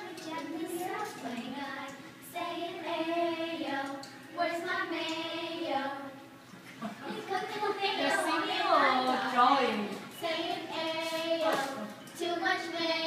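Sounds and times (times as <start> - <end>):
child singing: 0.0 - 6.2, 7.1 - 13.0.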